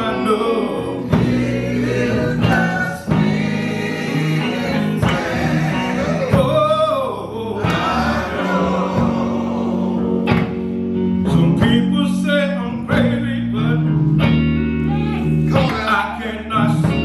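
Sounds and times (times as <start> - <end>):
gospel singing: 0.0 - 14.0, 15.2 - 17.0
church band: 0.0 - 17.0.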